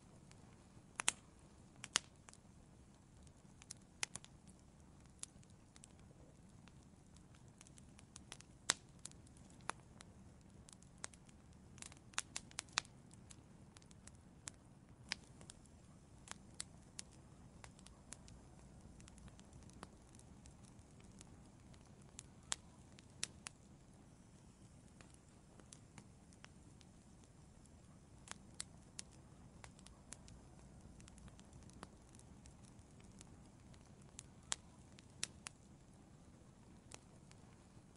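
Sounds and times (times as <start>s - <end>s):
low rumble of flames: 0.0s - 37.9s
wood fire pops and snaps: 0.2s - 37.9s.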